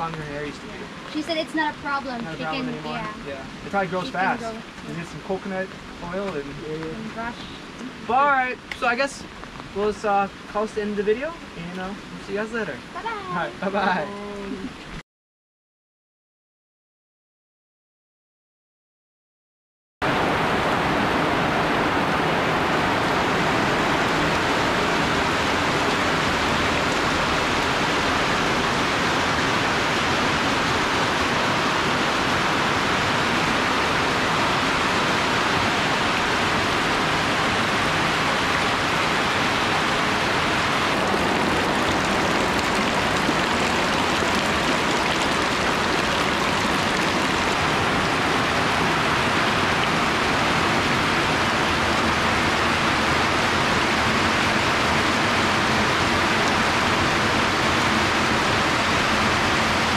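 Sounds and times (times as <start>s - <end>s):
heavy rain splashing into puddles: 0.0s - 14.9s, 20.0s - 59.9s
rain on plastic drums: 0.0s - 14.9s, 20.0s - 59.9s.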